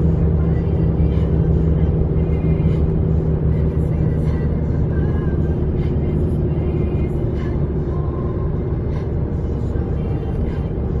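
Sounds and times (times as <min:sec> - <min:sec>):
car engine and tyre road noise: 0:00.0 - 0:11.0.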